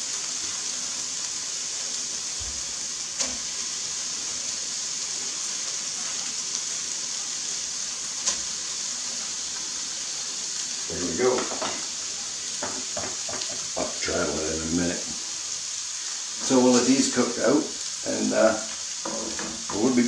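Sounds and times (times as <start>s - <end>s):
burgers and onions sizzling: 0.0s - 20.0s.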